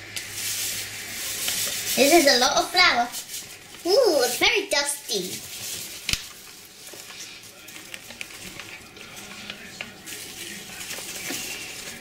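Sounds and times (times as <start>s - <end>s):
flour shaken from paper bag: 0.2s - 12.0s.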